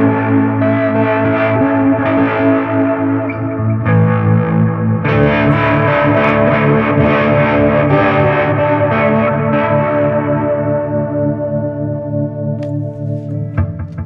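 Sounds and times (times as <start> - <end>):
overdriven electric guitar chords: 0.0 - 14.0.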